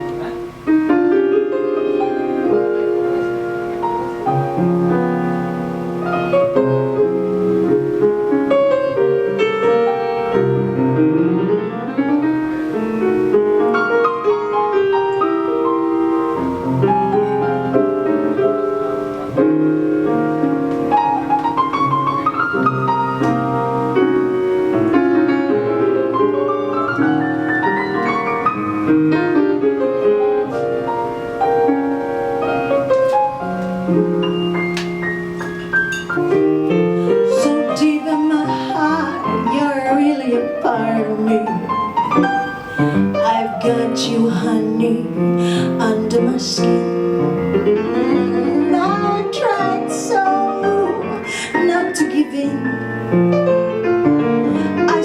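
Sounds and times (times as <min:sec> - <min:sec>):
piano-led instrumental music: 0:00.0 - 0:55.0.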